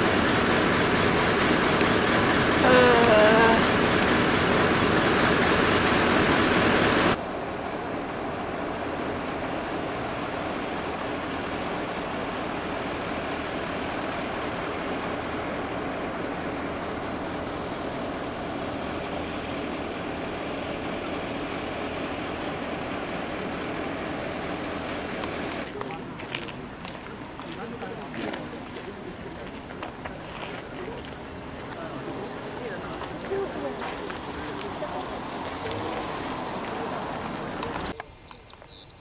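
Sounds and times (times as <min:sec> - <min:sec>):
moving vehicle drone: 0:00.0 - 0:38.7.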